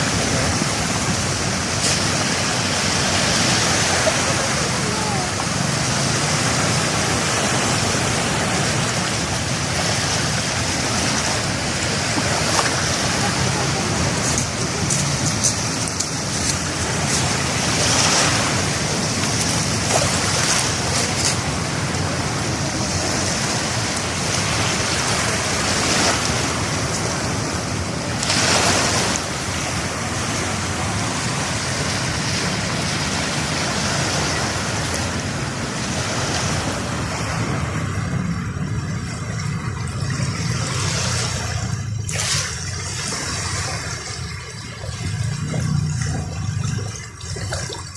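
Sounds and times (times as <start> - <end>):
waves washing onto shore: 0.0 - 47.9.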